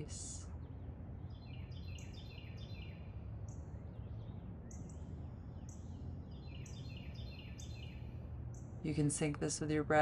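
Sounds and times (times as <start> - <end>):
birds chirping: 0.0 - 10.0
low background hum: 0.0 - 10.0.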